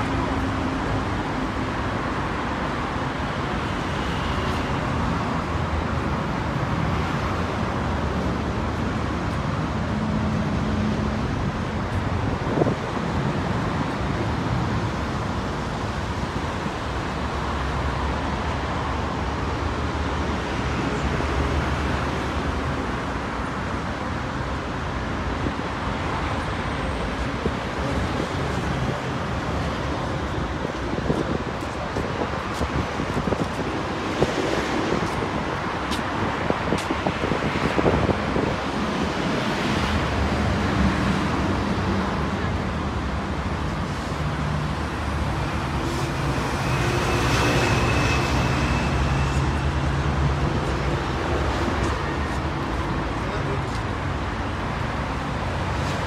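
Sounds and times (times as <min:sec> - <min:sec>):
cars passing: 0:00.0 - 0:56.0
road noise: 0:00.0 - 0:56.0.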